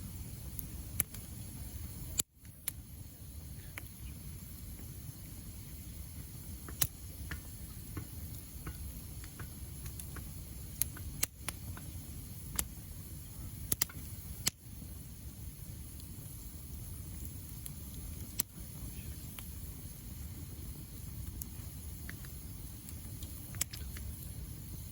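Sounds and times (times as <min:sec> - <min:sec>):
low steady rumble: 0:00.0 - 0:24.9
wood fire crackling: 0:00.0 - 0:24.9.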